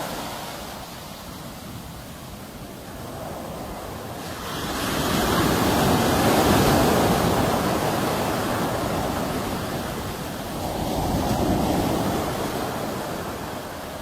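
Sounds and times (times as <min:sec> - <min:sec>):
sea waves breaking on shore: 0:00.0 - 0:14.0.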